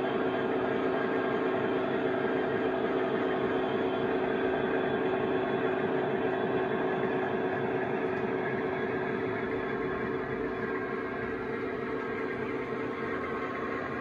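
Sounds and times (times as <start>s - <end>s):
model diesel engine sound hum: 0.0s - 14.0s.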